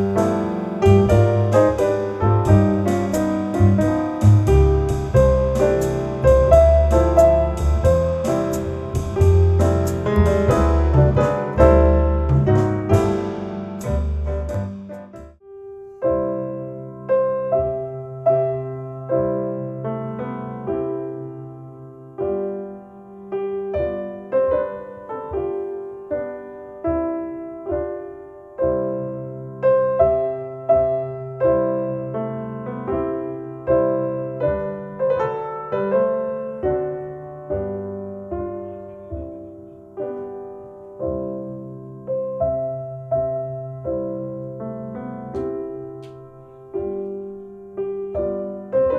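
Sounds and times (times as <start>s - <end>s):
solo piano music on loudspeakers: 0.0s - 48.9s.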